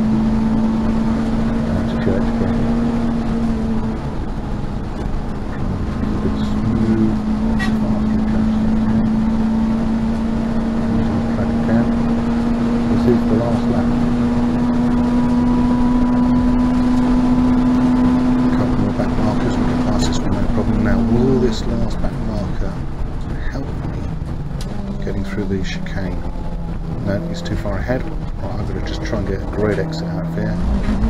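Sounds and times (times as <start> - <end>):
car engine at high revs: 0.0 - 31.0
road and wind noise: 0.0 - 31.0.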